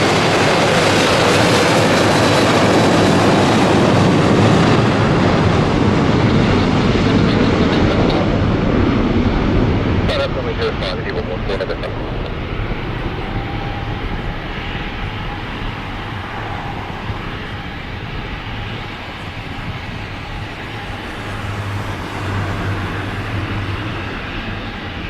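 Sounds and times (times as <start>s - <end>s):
jet engines at takeoff power: 0.0s - 25.0s.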